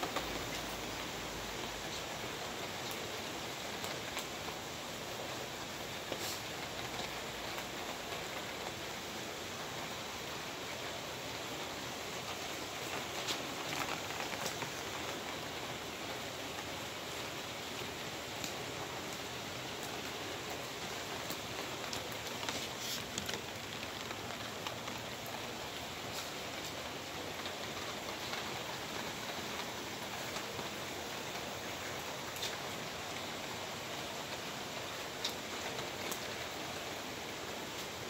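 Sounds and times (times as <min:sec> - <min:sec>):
rain on concrete: 0:00.0 - 0:38.0.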